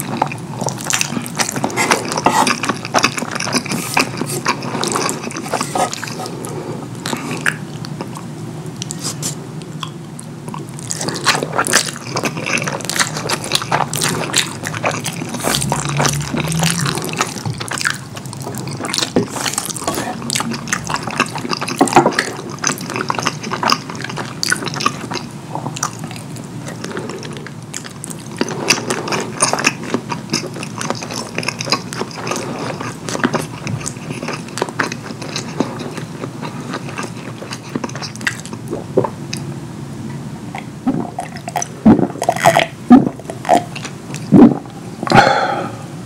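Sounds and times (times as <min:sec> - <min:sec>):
wet chewing and mouth smacks: 0:00.0 - 0:39.5.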